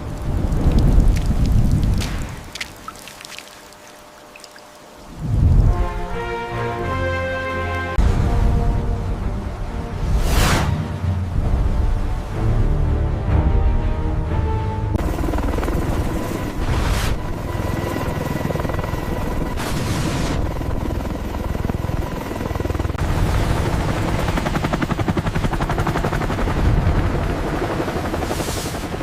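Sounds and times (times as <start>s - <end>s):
helicopter rotors and engines: 0.0s - 29.0s.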